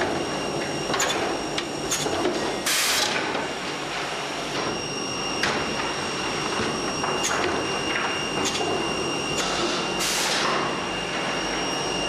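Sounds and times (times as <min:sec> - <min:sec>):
cnc machine whine: 0:00.0 - 0:12.0.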